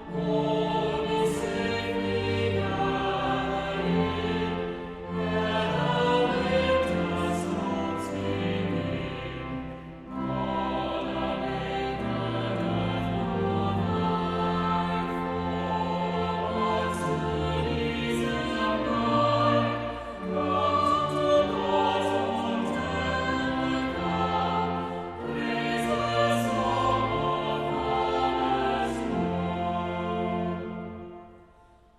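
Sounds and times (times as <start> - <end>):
choir singing sustained notes: 0.0 - 31.9.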